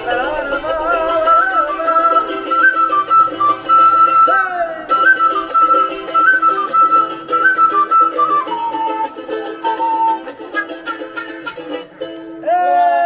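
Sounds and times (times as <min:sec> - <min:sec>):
flute melody: 0:00.0 - 0:13.0
strummed strings: 0:00.0 - 0:13.0.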